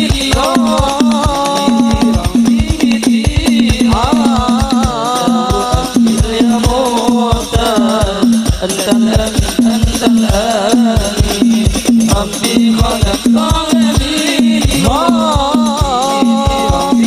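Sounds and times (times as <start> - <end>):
frame drums beating fast: 0.0 - 17.0
melody over drums: 0.0 - 17.0.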